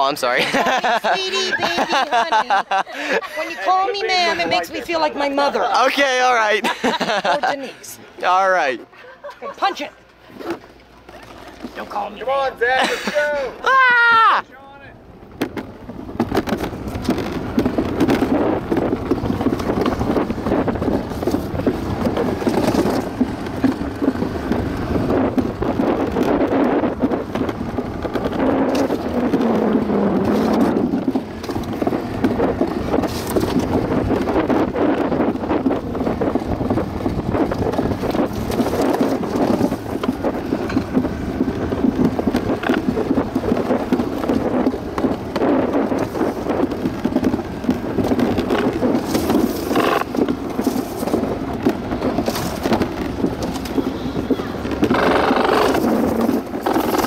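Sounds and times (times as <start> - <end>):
sled rumbling down chute: 0.0 - 57.0.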